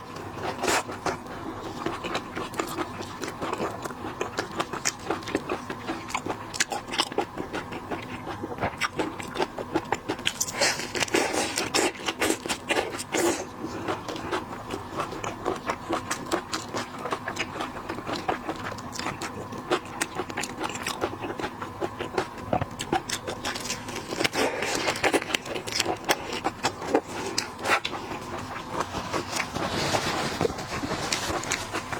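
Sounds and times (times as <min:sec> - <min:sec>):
chewing and smacking mouth sounds: 0:00.0 - 0:31.9.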